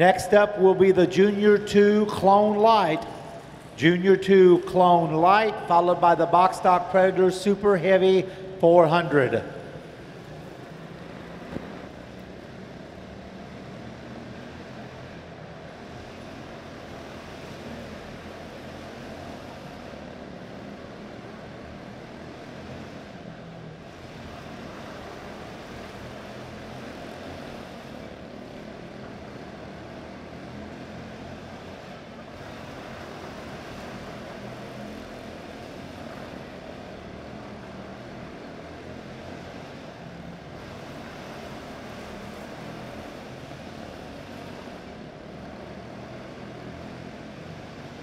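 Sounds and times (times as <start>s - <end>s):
small race car engines droning: 0.0s - 48.0s.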